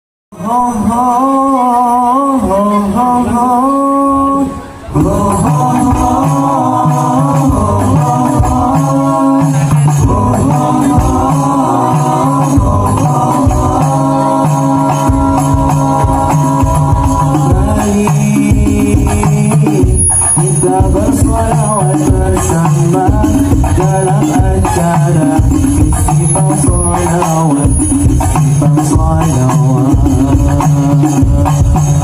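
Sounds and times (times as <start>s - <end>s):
frame drums beating: 5.0s - 32.0s.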